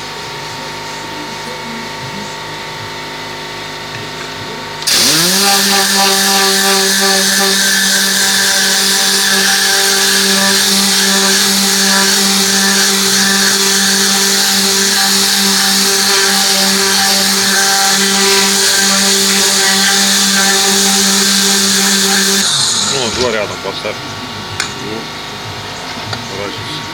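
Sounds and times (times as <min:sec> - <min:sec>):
electric motor running: 0:01.0 - 0:26.9.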